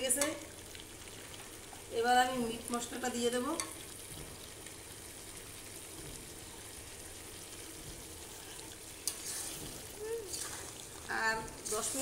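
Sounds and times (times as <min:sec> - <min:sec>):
meat and potatoes sizzling in a wok: 0:00.0 - 0:12.0.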